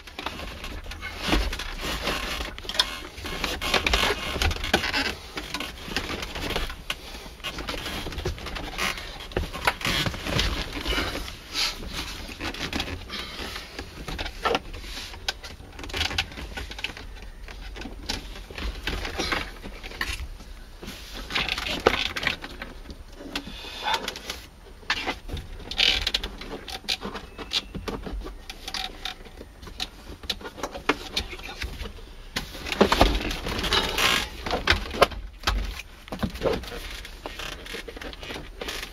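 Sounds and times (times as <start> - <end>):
plastic parts clicking and rattling: 0.0 - 20.4, 21.2 - 38.9
rustling: 0.0 - 38.9.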